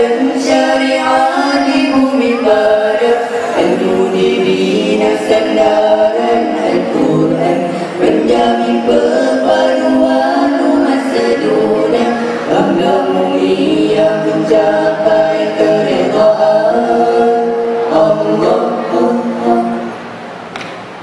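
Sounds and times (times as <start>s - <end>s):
male vocal group singing in harmony: 0.0s - 20.0s.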